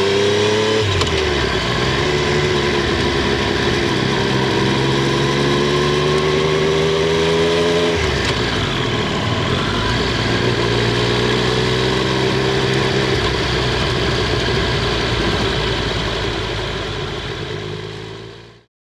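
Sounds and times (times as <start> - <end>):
motorcycle engine and exhaust: 0.0 - 18.7.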